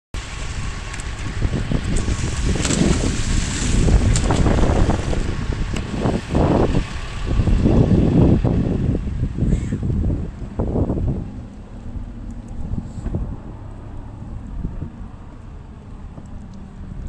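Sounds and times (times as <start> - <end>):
wind buffeting microphone: 0.2 - 17.0.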